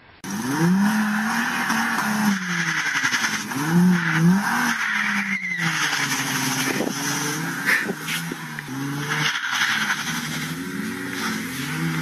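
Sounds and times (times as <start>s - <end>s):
car engines revving: 0.0s - 12.0s
tyres spinning in snow: 0.2s - 12.0s.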